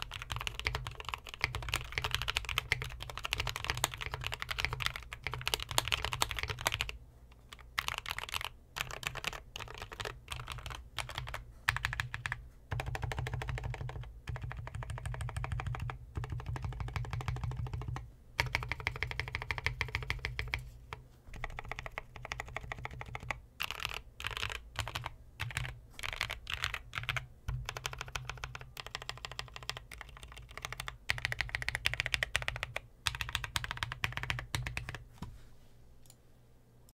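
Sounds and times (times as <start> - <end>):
fast mechanical keyboard typing: 0.0 - 20.6, 21.3 - 35.0.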